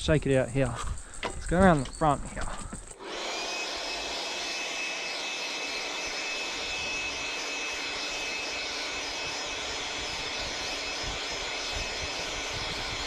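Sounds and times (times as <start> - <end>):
air blower running: 1.2 - 13.0.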